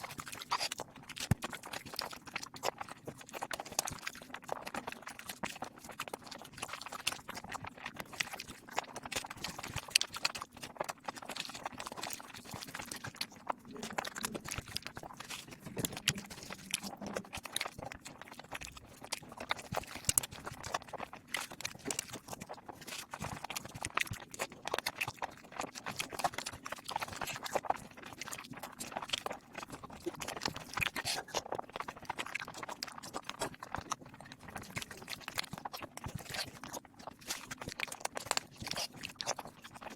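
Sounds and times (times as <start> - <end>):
rapid mouth smacks and chewing: 0.0 - 39.9.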